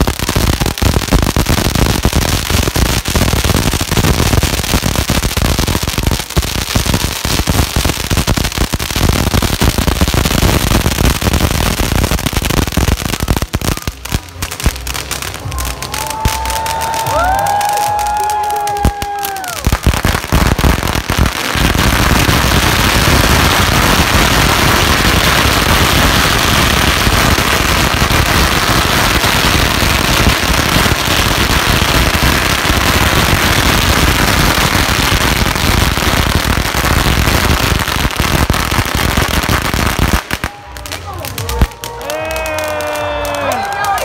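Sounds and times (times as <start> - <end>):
firecrackers exploding: 0.0 - 44.0.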